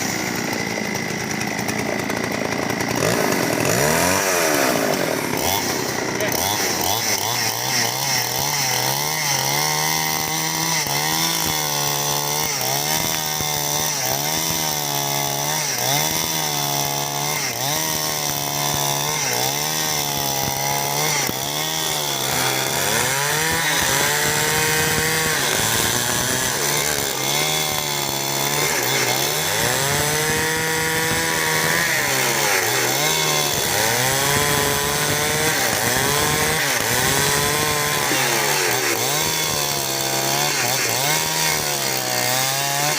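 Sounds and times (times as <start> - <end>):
chainsaw ripping timber: 0.0 - 42.9.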